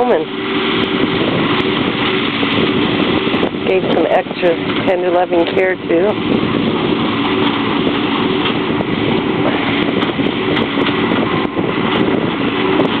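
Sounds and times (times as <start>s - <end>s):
engine idling: 0.0s - 13.0s
wind buffeting microphone: 0.0s - 13.0s.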